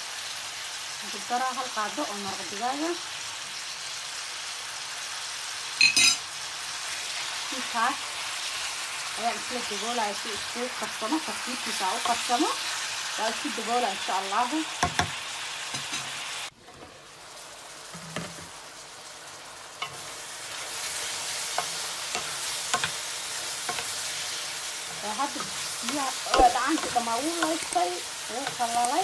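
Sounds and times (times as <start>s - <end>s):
meat and onions sizzling: 0.0s - 29.0s.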